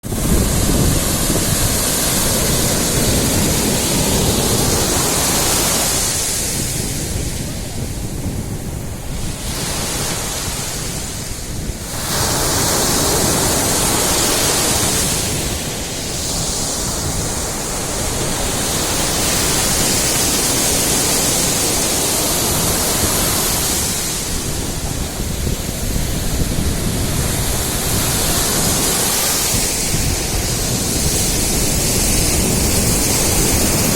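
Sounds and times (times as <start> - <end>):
waves breaking on a beach: 0.0 - 33.9
wind rumbling on microphone: 0.0 - 33.9.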